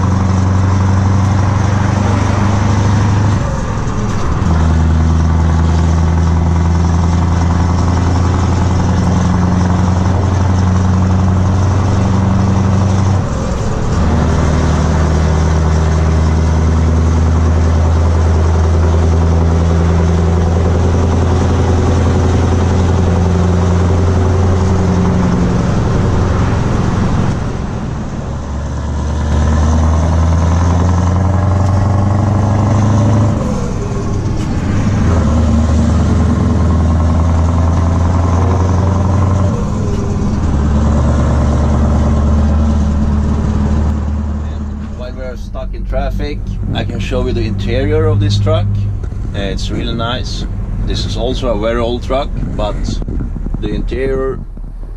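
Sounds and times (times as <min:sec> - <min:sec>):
diesel truck engine drone: 0:00.0 - 0:54.9.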